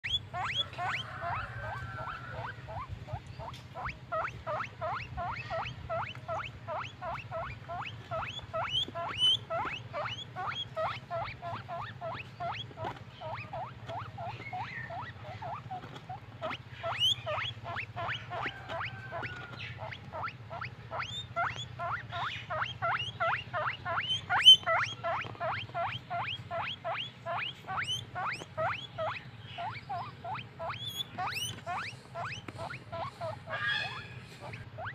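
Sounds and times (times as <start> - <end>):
guinea pig squeaking: 0.0 - 34.9.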